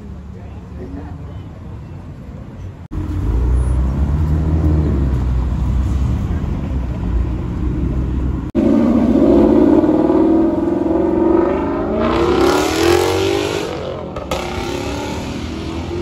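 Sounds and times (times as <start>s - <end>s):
exhaust and tyre rush: 1.9s - 16.0s.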